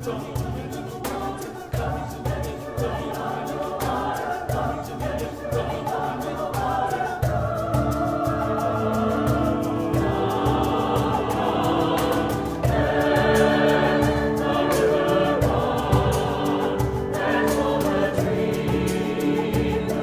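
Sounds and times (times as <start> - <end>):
hand drums beating: 0.0 - 20.0
mixed choir singing: 0.0 - 20.0
piano: 0.0 - 20.0.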